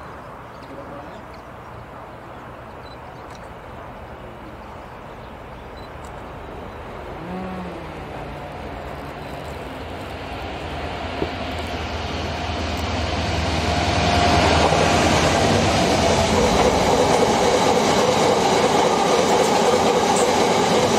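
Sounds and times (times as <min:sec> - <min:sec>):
diesel locomotive engine drone: 0:03.6 - 0:20.9.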